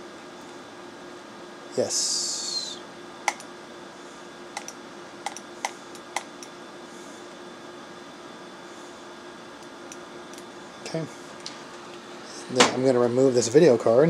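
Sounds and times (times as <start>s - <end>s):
computer fans humming: 0.0s - 14.0s.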